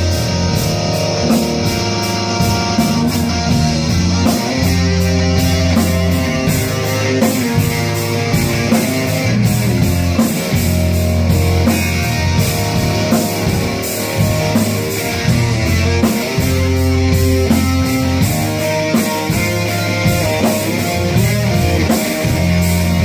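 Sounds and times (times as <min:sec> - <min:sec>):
drum beats: 0:00.0 - 0:23.0
low bass notes: 0:00.0 - 0:23.0
rock band playing live: 0:00.0 - 0:23.0.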